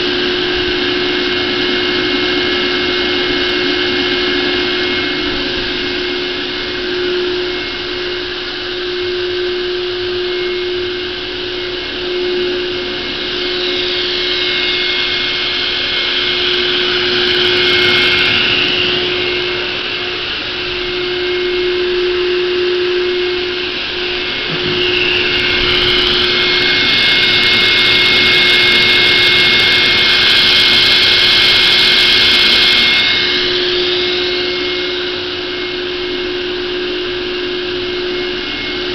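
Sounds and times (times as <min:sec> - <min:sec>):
table saw running: 0:00.0 - 0:38.9.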